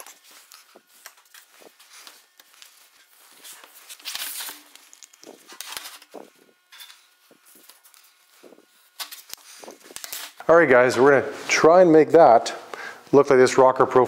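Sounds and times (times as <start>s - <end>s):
gloved hands rubbing on metal: 0.0s - 11.6s.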